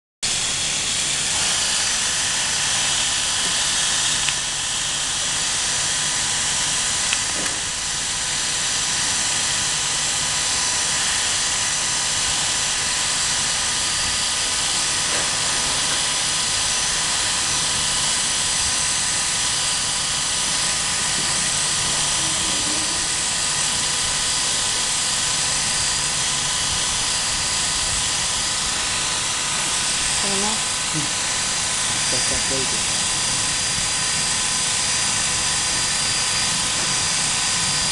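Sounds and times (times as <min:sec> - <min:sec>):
electric clippers whining: 0:00.2 - 0:37.9.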